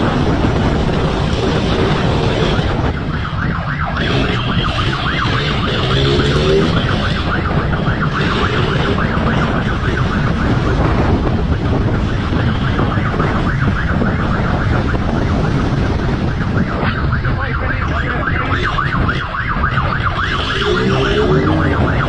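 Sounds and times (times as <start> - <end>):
motorcycle engine rumble: 0.0 - 22.0
warbling emergency siren: 0.0 - 22.0
wind noise on microphone: 0.0 - 22.0.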